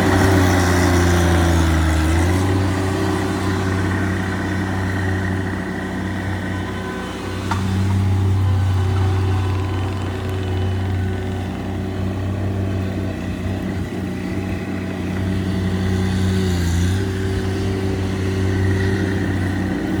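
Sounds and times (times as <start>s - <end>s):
engine running with deep hum: 0.0s - 20.0s.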